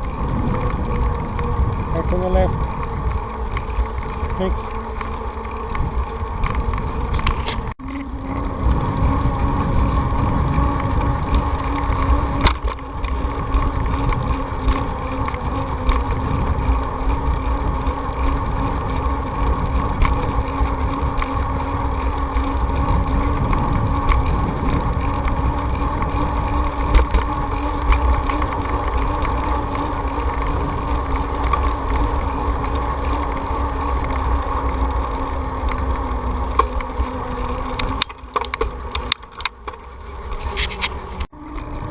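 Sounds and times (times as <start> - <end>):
low droning hum: 0.0 - 41.9
wind and road noise: 0.0 - 41.9.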